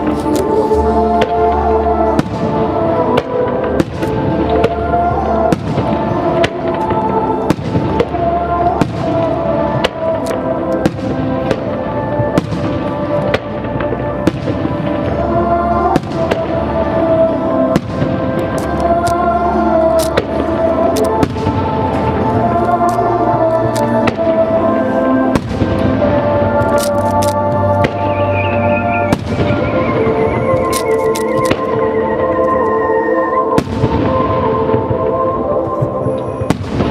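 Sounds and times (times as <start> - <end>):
fireworks bursting: 0.0 - 36.9
music with long held notes: 0.0 - 36.9.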